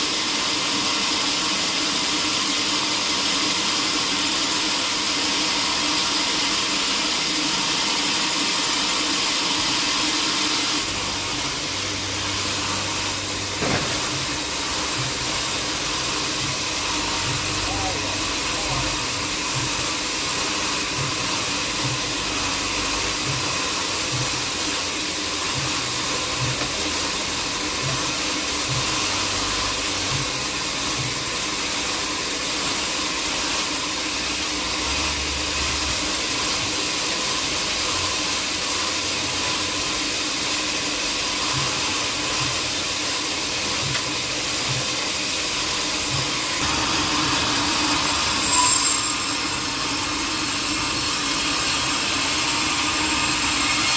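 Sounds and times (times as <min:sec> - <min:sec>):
sawmill machinery whirring: 0:00.0 - 0:53.9.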